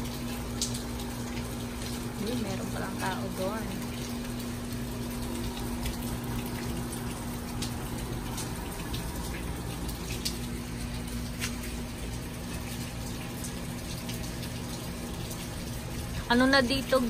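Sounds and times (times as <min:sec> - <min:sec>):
steady rain falling: 0:00.0 - 0:17.0
water drips tapping: 0:00.0 - 0:17.0.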